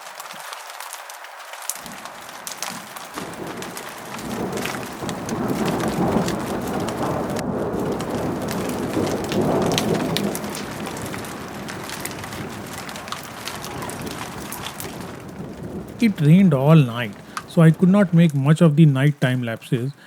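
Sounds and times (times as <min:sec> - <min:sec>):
raindrops ticking: 0:00.0 - 0:20.0
steady rush of rain: 0:00.0 - 0:20.0.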